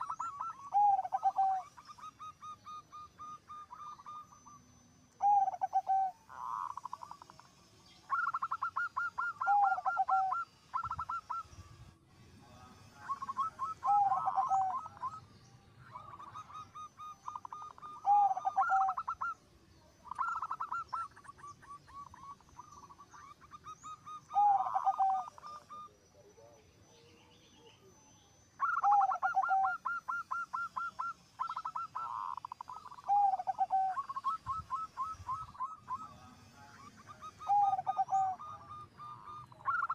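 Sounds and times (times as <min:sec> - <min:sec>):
dove cooing: 0:00.0 - 0:04.6, 0:05.2 - 0:11.6, 0:12.8 - 0:19.4, 0:20.0 - 0:28.0, 0:28.6 - 0:39.9.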